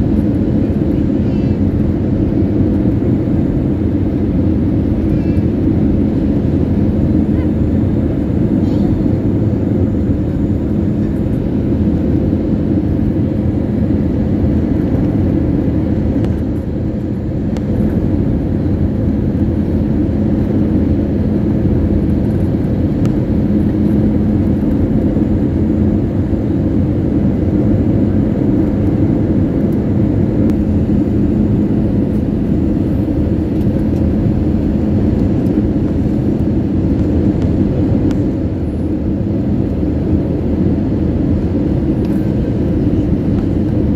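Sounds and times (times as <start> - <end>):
constant low hum: 0.0 - 43.9
jet engines and airflow rumble: 0.0 - 43.9.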